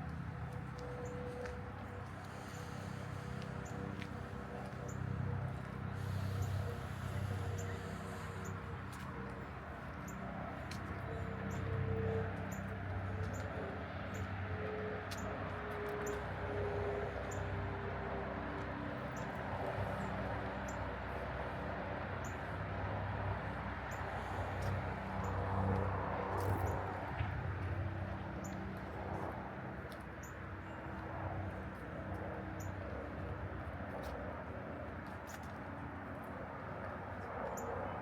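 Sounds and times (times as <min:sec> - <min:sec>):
distant traffic hum: 0:00.0 - 0:38.0.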